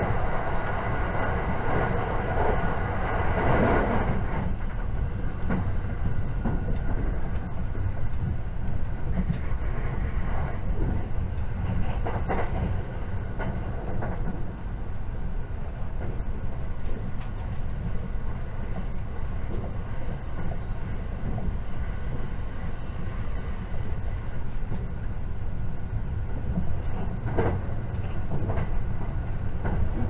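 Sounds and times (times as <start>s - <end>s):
train rumble from inside car: 0.0s - 30.0s.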